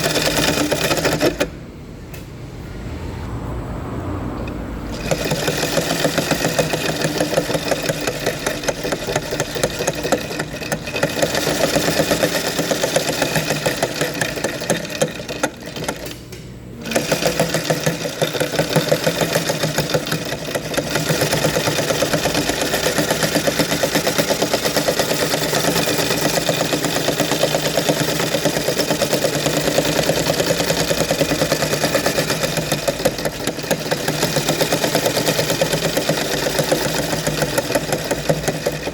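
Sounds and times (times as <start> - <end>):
sewing machine stitching: 0.0 - 1.5, 4.9 - 38.9.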